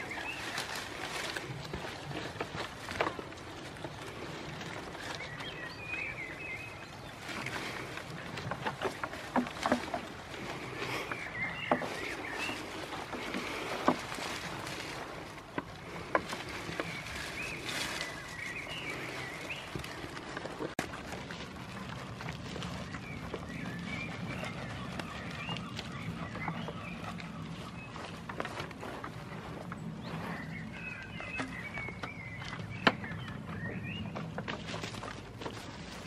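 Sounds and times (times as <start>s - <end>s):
leaves rustling: 0.0s - 36.0s.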